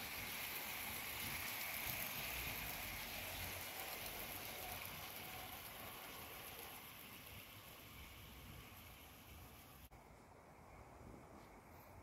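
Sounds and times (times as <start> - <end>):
model train wheels clattering: 0.0 - 9.7.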